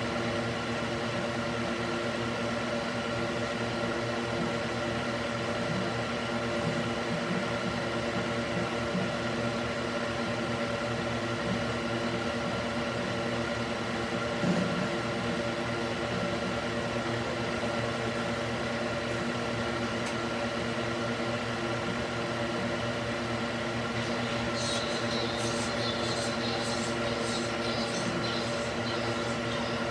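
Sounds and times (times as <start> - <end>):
electric cooling fan humming: 0.0 - 29.9.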